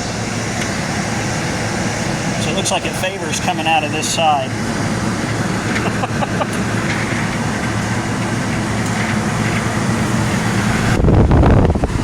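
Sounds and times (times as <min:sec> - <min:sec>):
air conditioner blower air rush: 0:00.0 - 0:12.0
low motor hum: 0:00.0 - 0:12.0.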